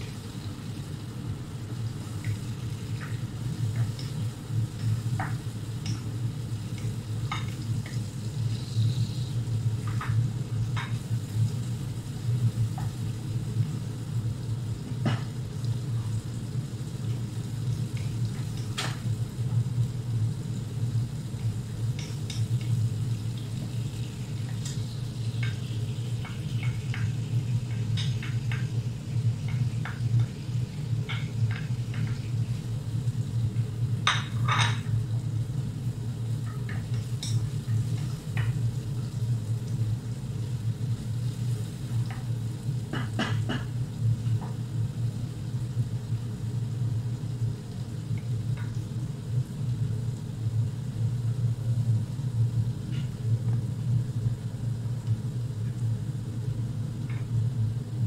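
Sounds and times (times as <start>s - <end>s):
meat frying in a pot: 0.0s - 58.0s.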